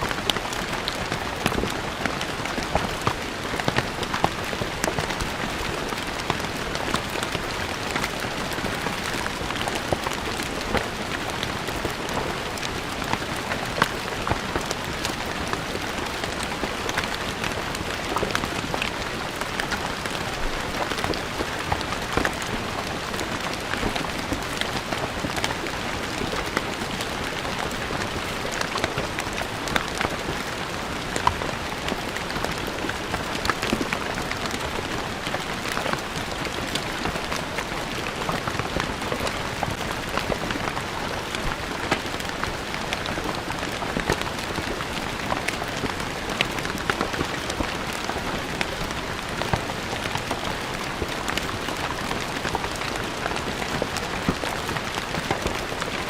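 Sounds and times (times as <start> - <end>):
rain falling on stone floor: 0.0 - 56.0.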